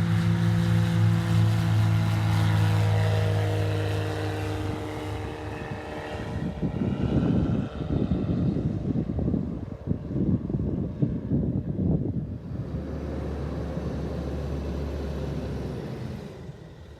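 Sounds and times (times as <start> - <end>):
propeller airplane droning: 0.0 - 16.9
wind buffeting microphone: 2.6 - 16.9.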